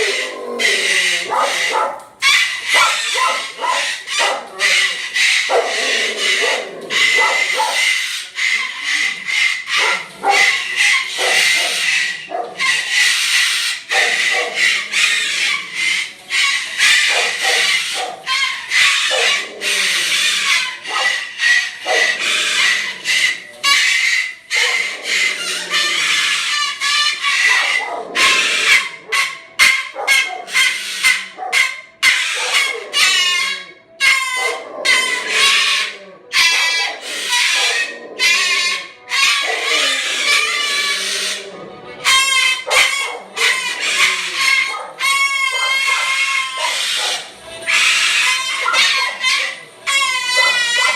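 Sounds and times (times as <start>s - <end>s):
cockatoo squawking: 0.0s - 50.9s.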